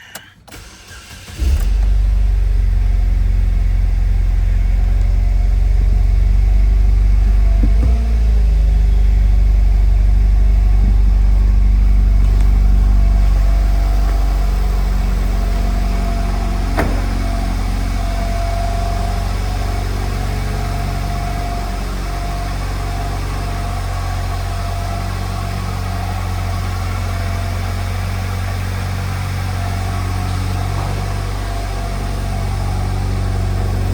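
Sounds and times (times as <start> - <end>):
car engine starting and idling: 0.0 - 33.9.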